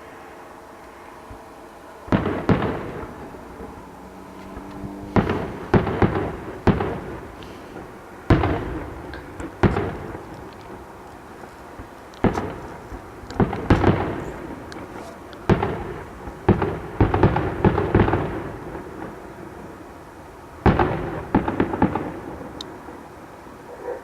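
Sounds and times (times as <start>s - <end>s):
fireworks booming: 0.0s - 23.4s.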